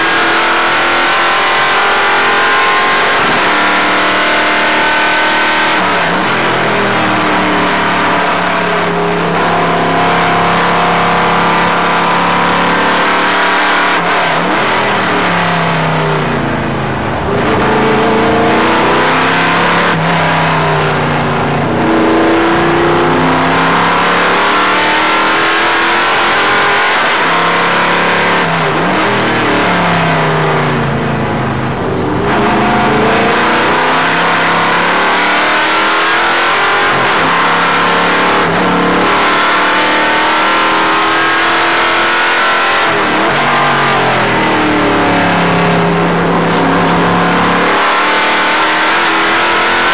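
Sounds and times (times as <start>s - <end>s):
racing car engine: 0.0s - 49.9s.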